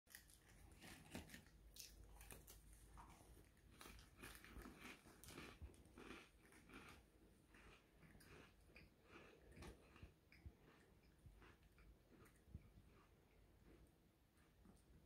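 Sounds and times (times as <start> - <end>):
puppy crunching dry biscuits: 0.1 - 14.8.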